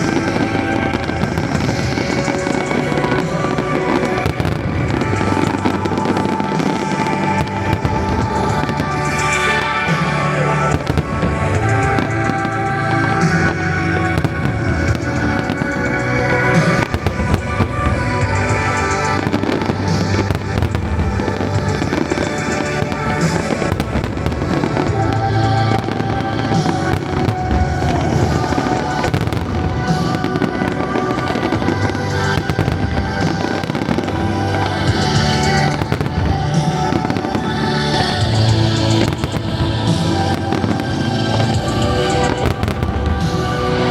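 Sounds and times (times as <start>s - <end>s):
fireworks bursting: 0.0s - 43.9s
loud recorded music: 0.0s - 43.9s.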